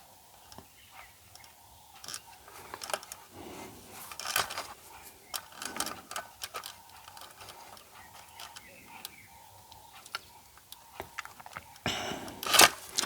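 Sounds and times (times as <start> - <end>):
small parts clicking and scraping: 0.4 - 13.0.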